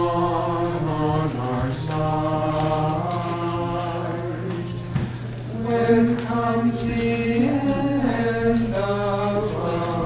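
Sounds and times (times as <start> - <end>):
mixed choir singing: 0.0 - 10.0.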